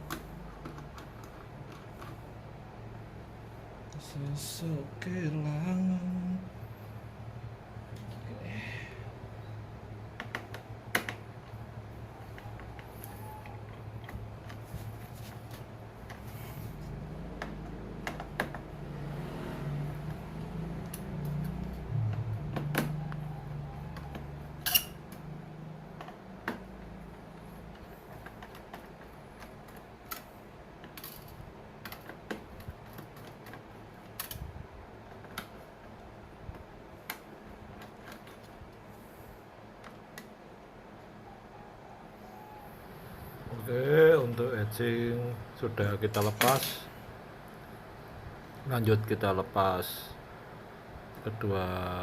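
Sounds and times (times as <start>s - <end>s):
low rumble of handling: 0.0s - 49.1s.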